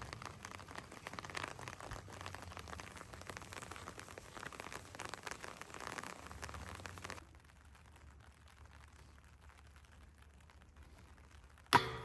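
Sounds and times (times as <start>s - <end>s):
fine crackling and crunching: 0.0s - 11.8s.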